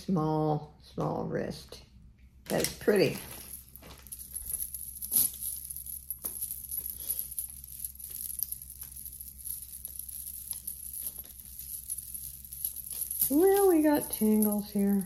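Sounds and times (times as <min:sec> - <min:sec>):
crinkling: 0:02.5 - 0:15.0
jewelry clicking and clinking: 0:02.5 - 0:15.0.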